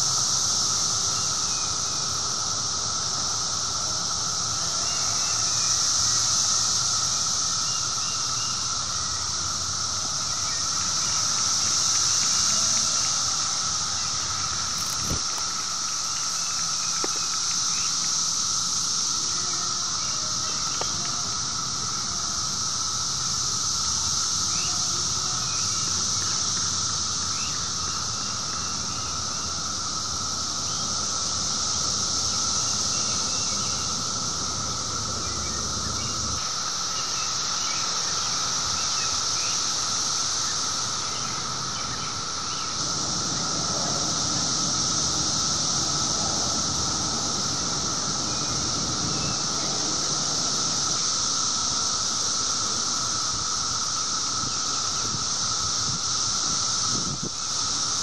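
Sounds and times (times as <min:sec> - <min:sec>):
cicadas buzzing drone: 0:00.0 - 0:58.0.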